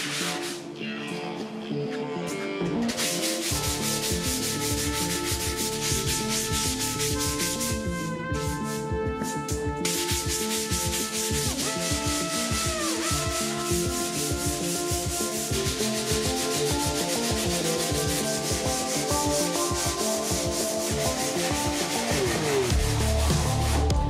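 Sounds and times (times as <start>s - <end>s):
sandpaper rubbing on panel: 0.0s - 0.6s, 2.9s - 8.8s, 9.8s - 23.7s.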